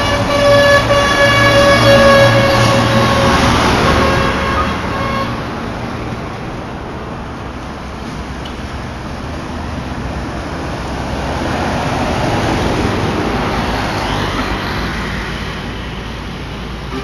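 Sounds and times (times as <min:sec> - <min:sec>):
heavy truck passing: 0:00.0 - 0:17.0
truck tyre noise: 0:00.0 - 0:17.0.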